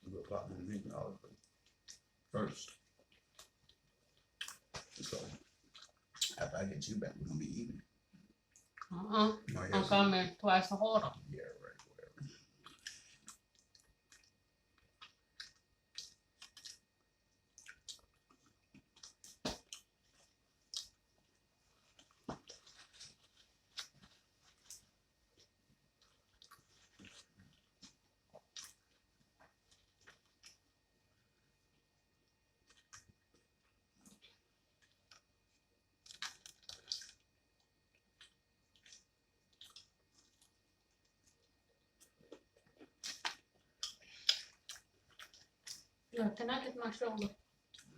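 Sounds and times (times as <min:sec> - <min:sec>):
person chewing food: 0:01.4 - 0:06.4, 0:11.7 - 0:46.1, 0:47.2 - 0:47.9.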